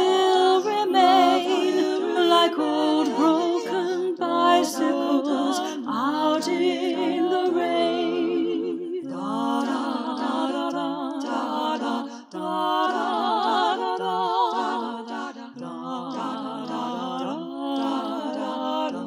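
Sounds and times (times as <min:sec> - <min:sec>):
a cappella vocal harmony: 0:00.0 - 0:19.0.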